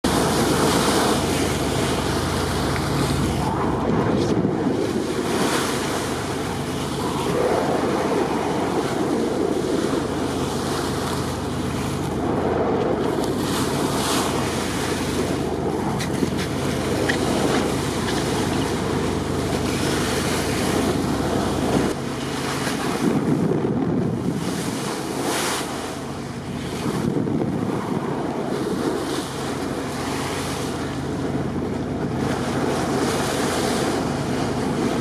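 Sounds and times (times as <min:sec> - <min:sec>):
sea water rushing: 0:00.0 - 0:35.0
wind rumbling on microphone: 0:00.0 - 0:35.0.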